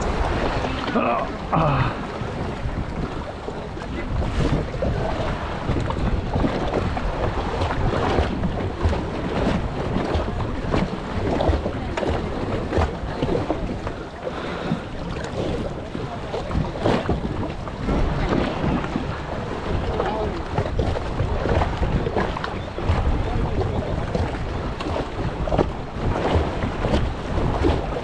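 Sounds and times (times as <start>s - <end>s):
jet ski engine running: 0.0s - 28.0s
water splashing against hull: 0.0s - 28.0s
wind buffeting microphone: 0.0s - 28.0s.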